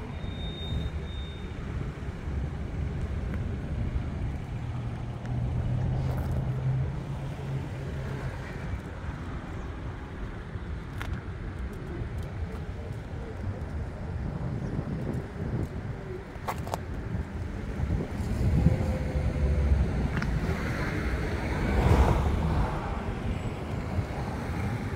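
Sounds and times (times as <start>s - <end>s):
car engine rumbling: 0.0s - 24.9s.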